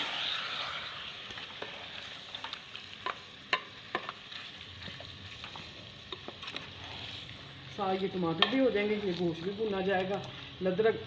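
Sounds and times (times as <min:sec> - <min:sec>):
meat and tomatoes sizzling: 0:00.0 - 0:11.0.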